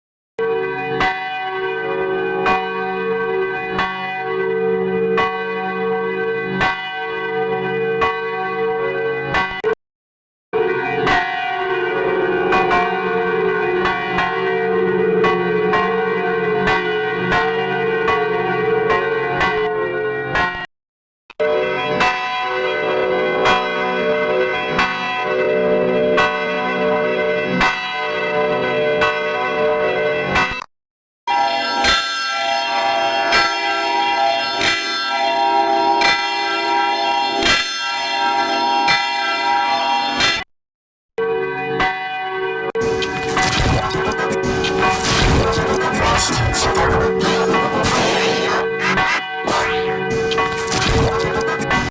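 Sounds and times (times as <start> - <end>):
church bells ringing: 0.4 - 9.6, 10.6 - 20.6, 21.4 - 30.6, 31.3 - 40.4, 41.2 - 51.9.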